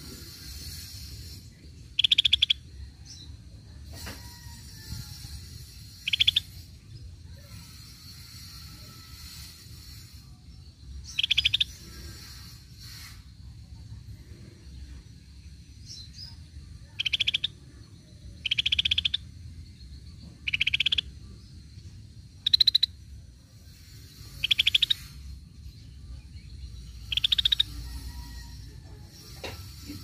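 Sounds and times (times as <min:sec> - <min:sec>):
bird buzzy trills: 0:00.0 - 0:15.0, 0:15.8 - 0:30.0.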